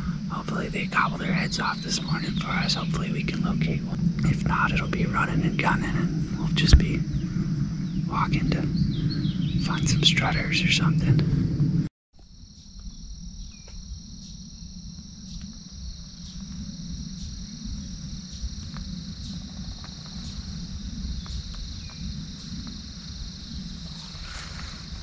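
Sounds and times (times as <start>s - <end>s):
insects chorus: 0.0s - 25.0s
low rumble: 0.0s - 25.0s.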